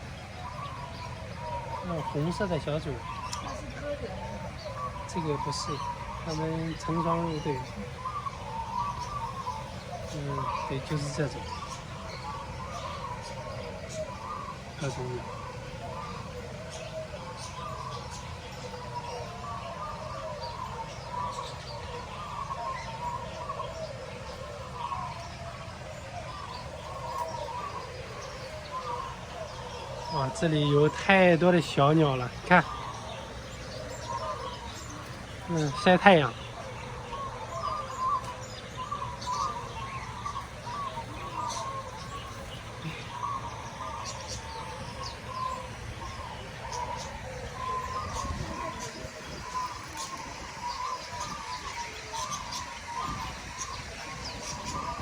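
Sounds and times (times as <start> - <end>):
birds warbling and chirping: 0.0 - 55.0
low steady background rumble: 0.0 - 55.0.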